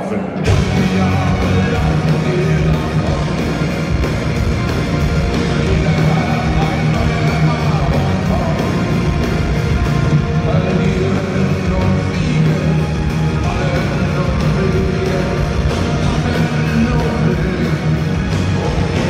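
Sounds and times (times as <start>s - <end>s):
heavy metal band playing: 0.0s - 19.0s.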